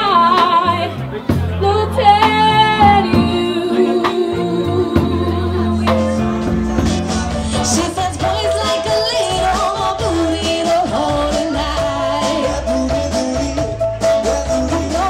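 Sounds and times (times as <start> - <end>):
live band playing: 0.0 - 15.0
woman singing lead vocal: 0.0 - 15.0.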